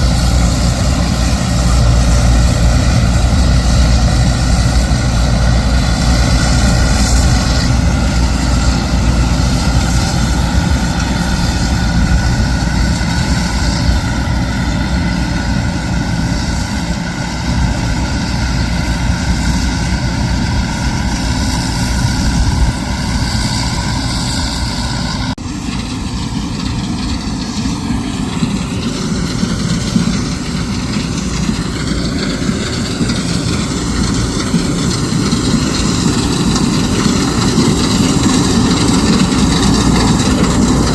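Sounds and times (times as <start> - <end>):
heavy diesel machinery drone: 0.0 - 40.9.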